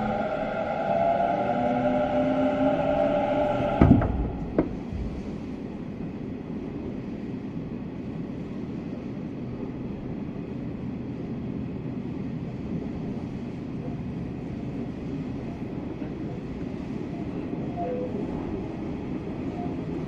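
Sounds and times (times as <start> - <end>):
train wheels rumbling: 0.0 - 8.8, 11.9 - 20.0.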